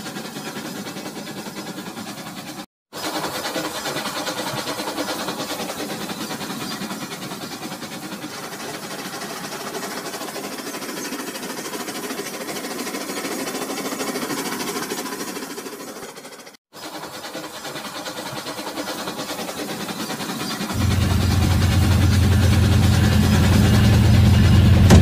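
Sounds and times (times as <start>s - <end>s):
toy train motor whirring: 0.0s - 20.8s.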